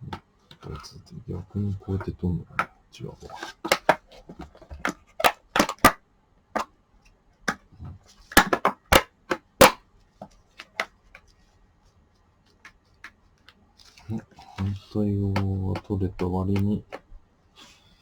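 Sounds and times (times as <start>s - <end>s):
clicks and knocks of plastic parts: 0.0s - 6.8s, 7.4s - 11.3s, 12.5s - 17.2s.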